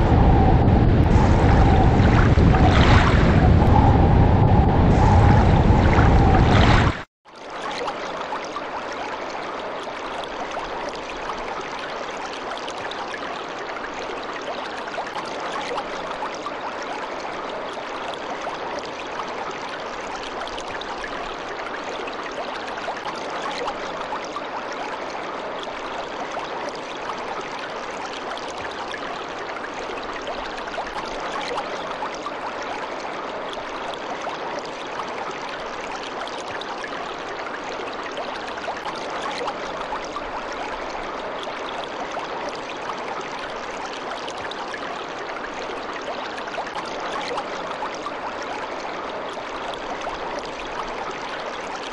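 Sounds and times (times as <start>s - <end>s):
stream babbling and rushing: 0.0s - 51.9s.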